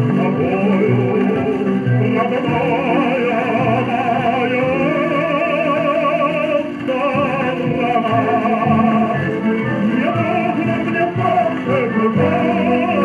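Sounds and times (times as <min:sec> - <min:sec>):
old song on record player: 0:00.0 - 0:13.0.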